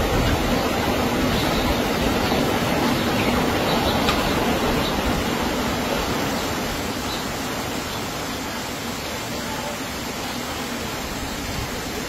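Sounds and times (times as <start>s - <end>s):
floodwater rushing: 0.0s - 12.0s
heavy rain: 0.0s - 12.0s.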